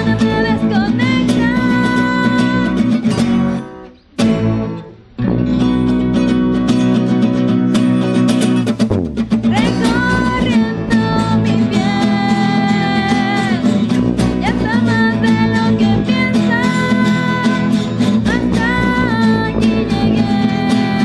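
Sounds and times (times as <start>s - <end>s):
acoustic guitars: 0.0s - 21.0s
bass guitar: 0.0s - 21.0s.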